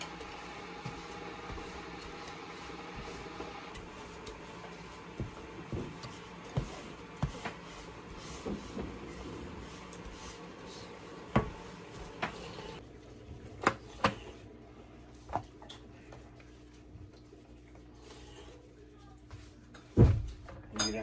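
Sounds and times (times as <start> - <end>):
low steady background hum: 0.0 - 21.0.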